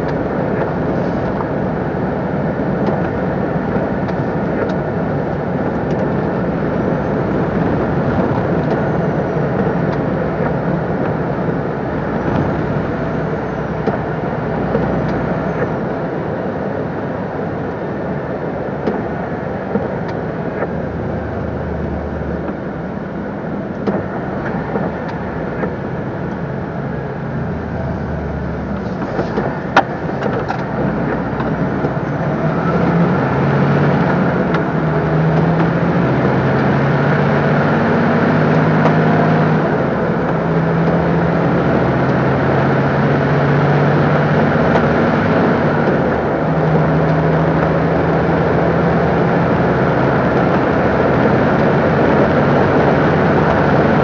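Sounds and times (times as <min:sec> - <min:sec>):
road and tyre noise: 0:00.0 - 0:54.0
truck diesel engine running: 0:00.0 - 0:54.0.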